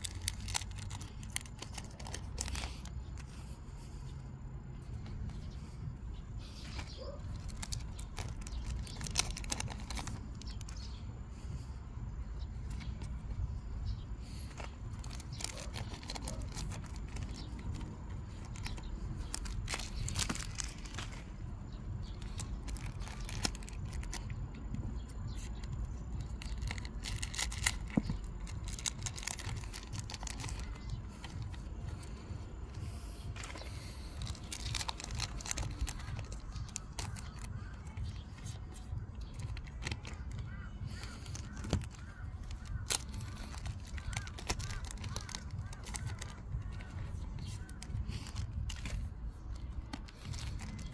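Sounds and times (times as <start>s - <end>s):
foil wrappers crinkling and tearing: 0.0s - 3.3s, 6.4s - 10.9s, 14.2s - 24.4s, 25.0s - 32.2s, 33.3s - 50.9s
low steady hum: 0.0s - 50.9s.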